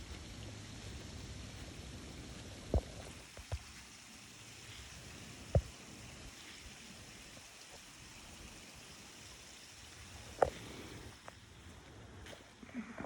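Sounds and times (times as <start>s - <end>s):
water overflowing and running off: 0.0s - 13.0s.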